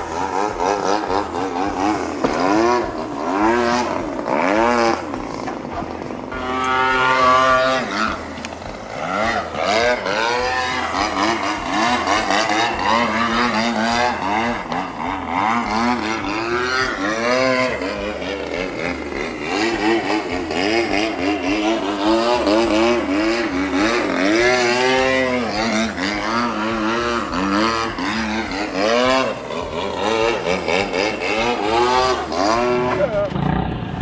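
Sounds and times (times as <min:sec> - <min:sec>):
model airplane engine buzzing: 0:00.0 - 0:34.0.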